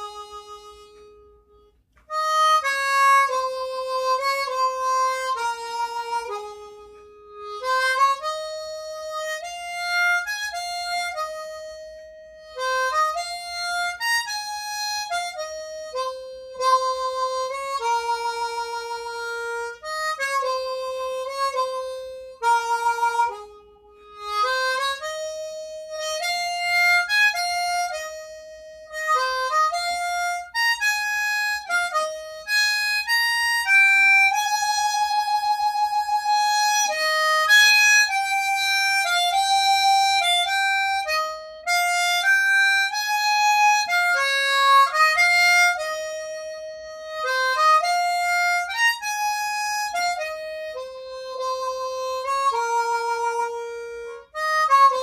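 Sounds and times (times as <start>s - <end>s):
solo harmonica melody: 0.0s - 55.0s.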